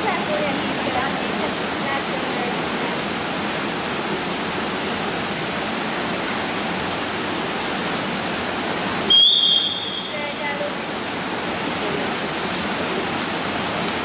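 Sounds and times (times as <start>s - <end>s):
swimming pool hall hiss: 0.0s - 14.0s.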